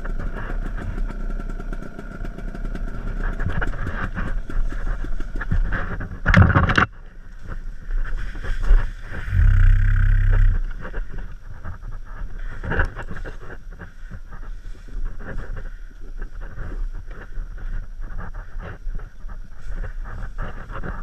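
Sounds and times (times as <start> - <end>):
dirt bike engine running: 0.0 - 21.0
wind noise: 3.1 - 21.0.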